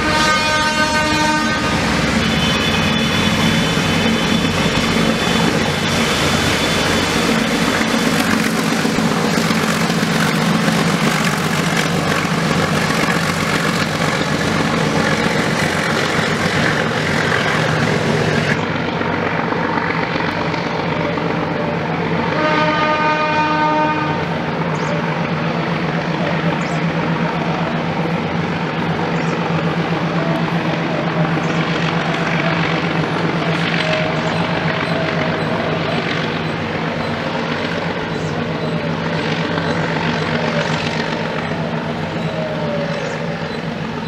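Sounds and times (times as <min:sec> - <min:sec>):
steam locomotive rumble: 0:00.0 - 0:44.0.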